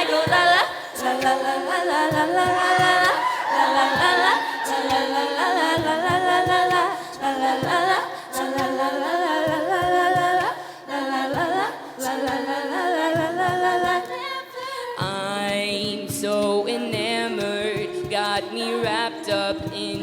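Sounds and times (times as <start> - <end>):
a cappella group singing: 0.0 - 20.0.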